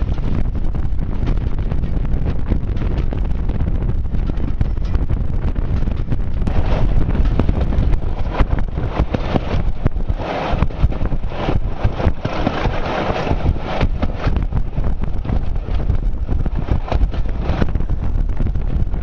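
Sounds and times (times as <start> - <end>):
diesel locomotive engine under load: 0.0 - 19.0
wind buffeting microphone: 0.0 - 19.0.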